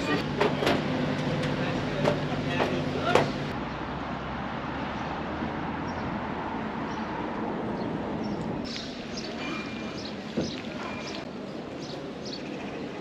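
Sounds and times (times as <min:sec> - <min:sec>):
background noise: 0:00.0 - 0:13.0.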